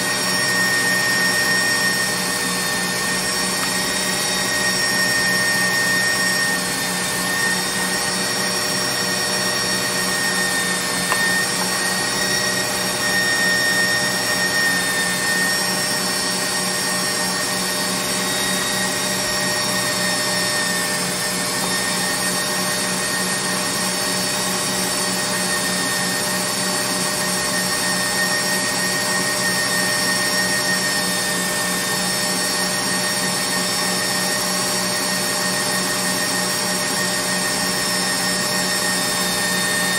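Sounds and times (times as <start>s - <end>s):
mixer motor humming with whine: 0.0s - 39.9s.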